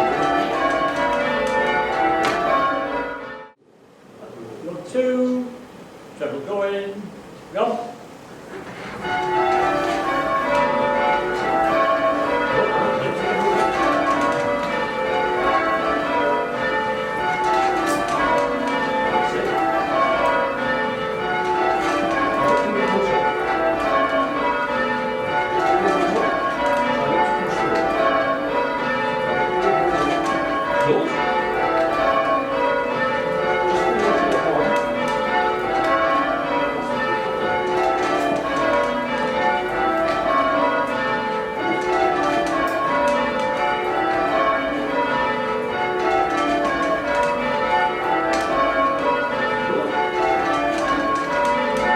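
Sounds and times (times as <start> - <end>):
church bells ringing: 0.0 - 3.6, 8.6 - 51.9.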